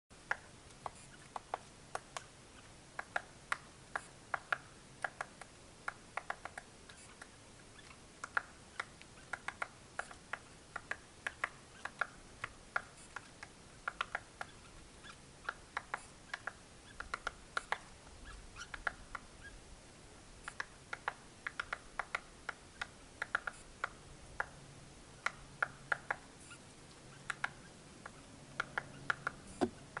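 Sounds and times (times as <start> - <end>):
woodpecker pecking bark: 0.3 - 19.6, 20.4 - 24.6, 25.2 - 30.0.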